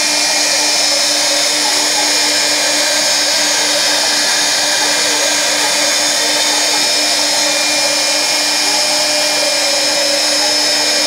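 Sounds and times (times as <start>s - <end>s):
router spindle whining while carving wood: 0.0s - 11.0s.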